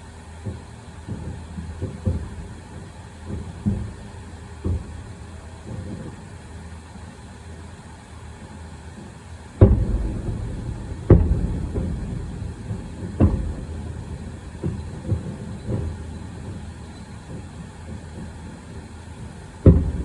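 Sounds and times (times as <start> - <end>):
smaller firework bangs: 0.0 - 7.6, 8.4 - 20.0
fireworks booming with echo: 0.0 - 20.0.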